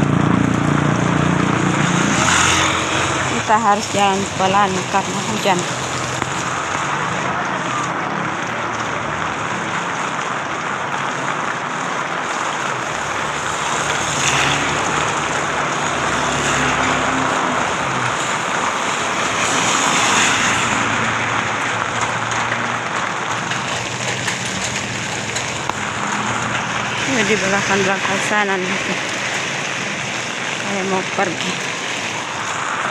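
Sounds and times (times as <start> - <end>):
heavy rain on umbrella: 0.0 - 32.9
motor traffic: 0.0 - 32.9.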